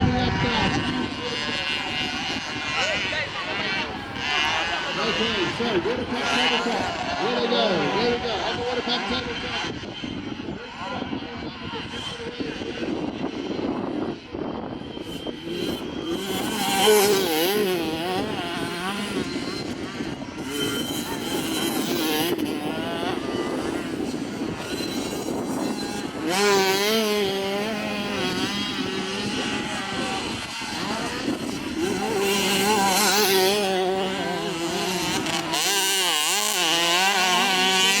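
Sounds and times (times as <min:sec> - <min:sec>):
dirt bike engines revving: 0:00.0 - 0:38.0.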